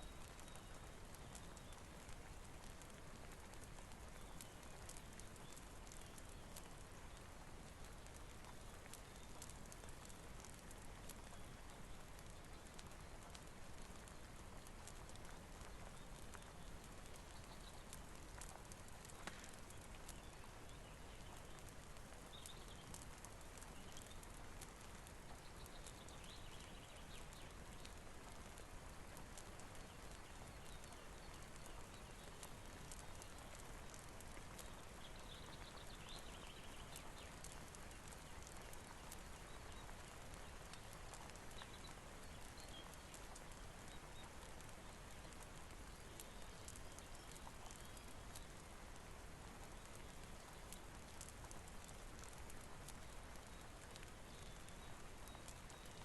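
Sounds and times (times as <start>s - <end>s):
light rain ticks: 0.0s - 56.0s.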